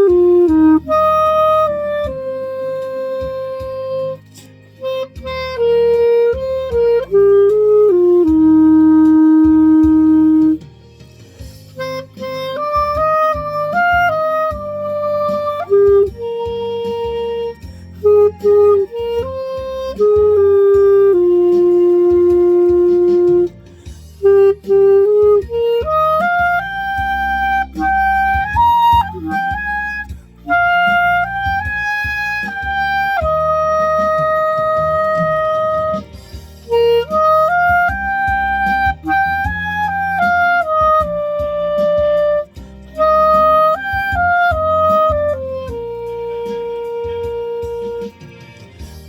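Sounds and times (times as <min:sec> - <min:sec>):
clarinet playing slow melody: 0:00.0 - 0:49.0
low backing accompaniment: 0:00.0 - 0:49.0.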